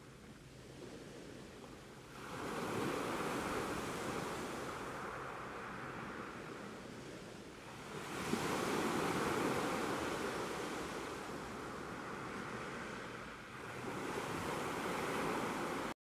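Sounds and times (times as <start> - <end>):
sea waves breaking on beach: 0.0 - 16.0.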